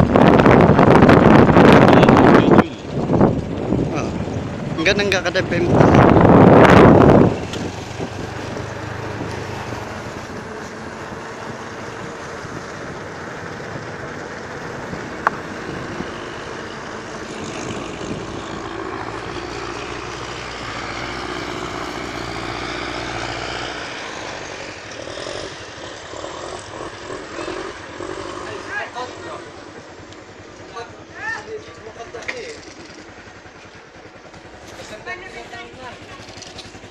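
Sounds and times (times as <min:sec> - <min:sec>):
vehicle engine and road noise: 0:00.0 - 0:36.9.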